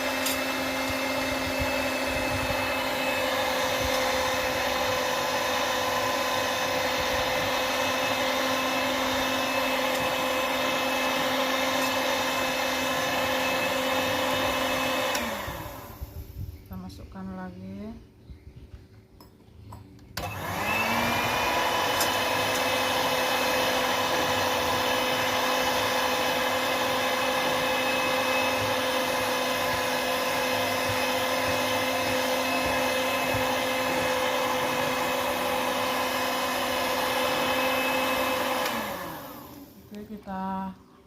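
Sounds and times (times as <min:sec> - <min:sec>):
electric cake mixer running: 0:00.0 - 0:16.5, 0:20.2 - 0:40.4.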